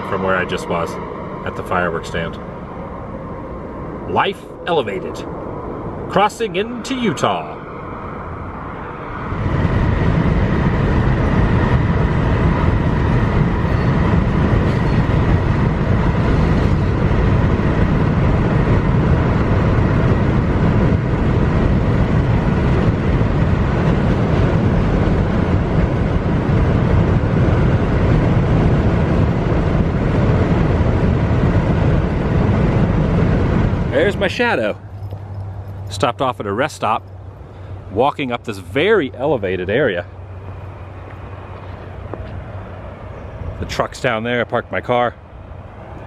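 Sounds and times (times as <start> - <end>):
car road and wind noise: 0.0 - 46.0.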